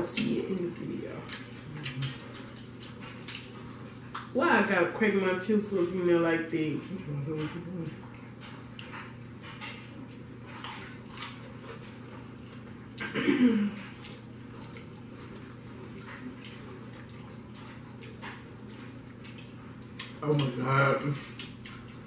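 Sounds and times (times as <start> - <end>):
wet chewing and smacking: 0.1 - 4.4, 6.8 - 22.0.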